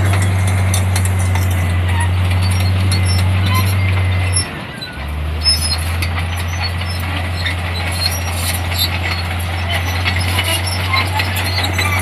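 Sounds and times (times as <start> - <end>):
diesel engine droning: 0.0 - 12.0
light clicks and squeaks: 0.0 - 12.0.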